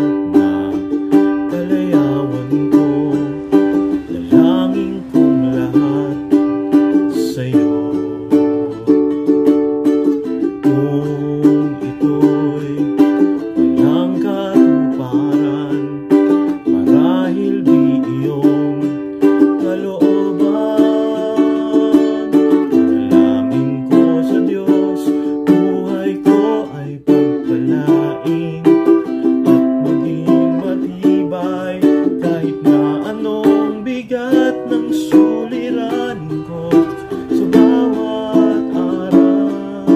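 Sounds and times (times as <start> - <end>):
man singing low: 0.0 - 9.3, 10.6 - 39.9
ukulele strummed chords: 0.0 - 39.9.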